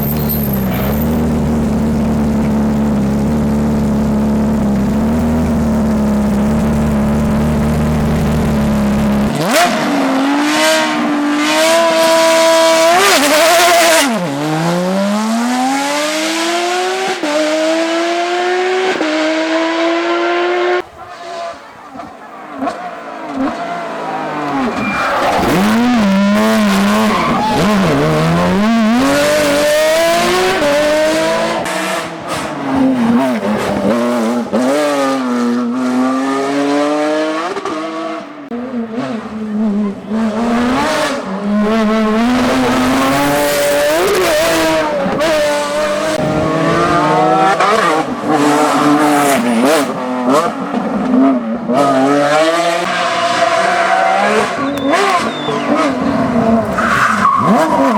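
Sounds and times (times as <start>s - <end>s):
rally car engine revving hard: 0.0s - 57.9s.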